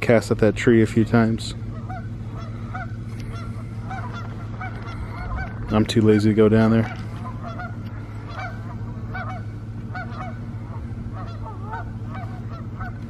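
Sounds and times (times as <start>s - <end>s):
steady low hum: 0.0s - 13.0s
geese honking: 0.6s - 13.0s.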